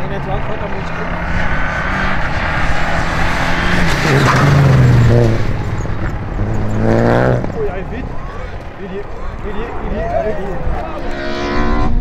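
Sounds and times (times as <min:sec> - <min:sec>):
rally car driving past: 0:00.0 - 0:12.0.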